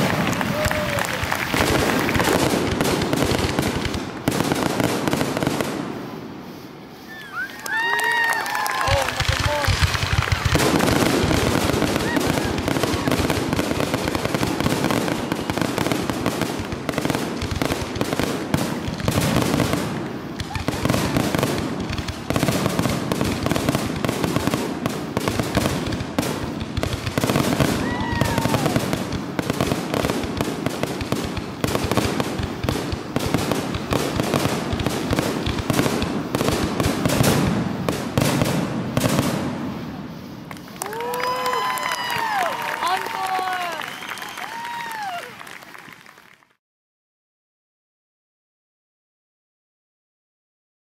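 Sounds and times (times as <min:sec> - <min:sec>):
fireworks bangs and crackles: 0:00.0 - 0:46.2.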